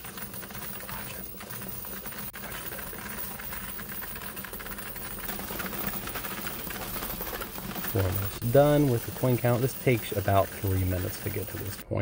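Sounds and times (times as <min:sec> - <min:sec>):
coin counter motor humming: 0:00.0 - 0:11.8
coins clattering: 0:00.0 - 0:11.8.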